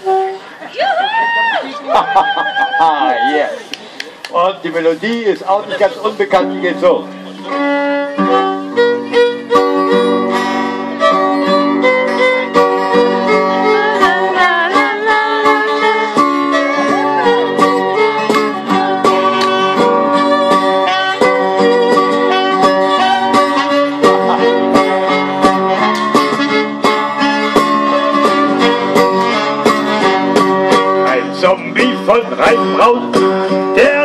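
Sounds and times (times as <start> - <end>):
saxophone: 0.0 - 0.6, 7.0 - 34.0
fiddle melody: 0.0 - 3.6, 4.6 - 34.0
strummed acoustic guitar: 5.5 - 34.0.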